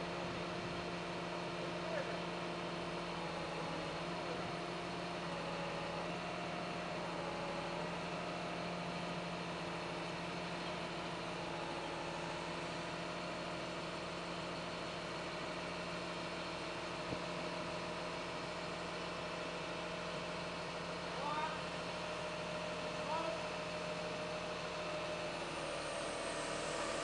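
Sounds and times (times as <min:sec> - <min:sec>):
forklift engine running: 0:00.0 - 0:27.0.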